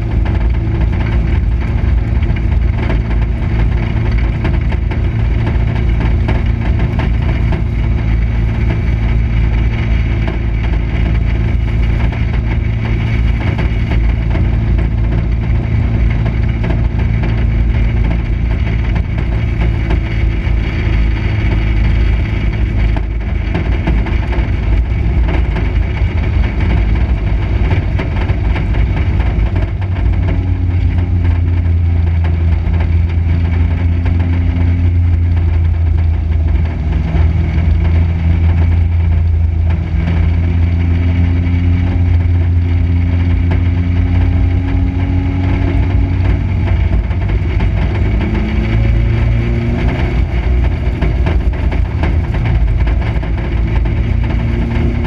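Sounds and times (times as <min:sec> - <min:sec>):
race car engine drone: 0:00.0 - 0:55.0.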